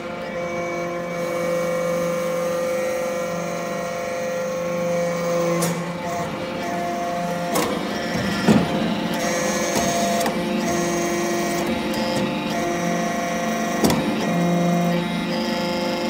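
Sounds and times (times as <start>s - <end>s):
hydraulic motor and pump hum: 0.0s - 16.0s.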